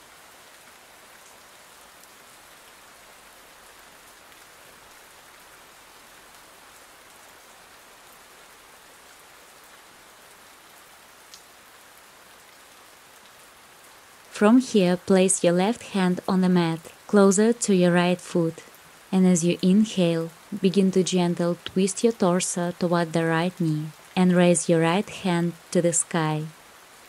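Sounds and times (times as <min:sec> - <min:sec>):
soft rain falling: 0:00.0 - 0:27.0.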